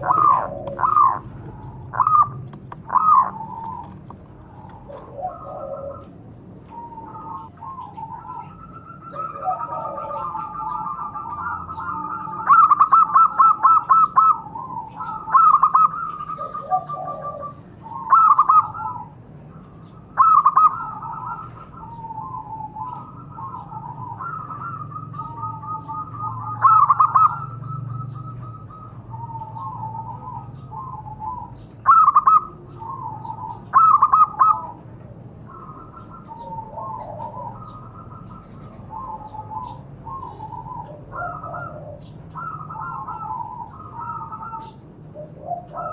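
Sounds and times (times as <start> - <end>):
doves cooing: 0.0 - 45.9.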